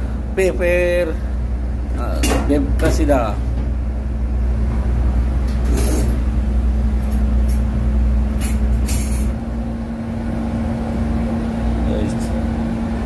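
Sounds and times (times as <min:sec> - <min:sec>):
constant hum: 0:00.0 - 0:13.0.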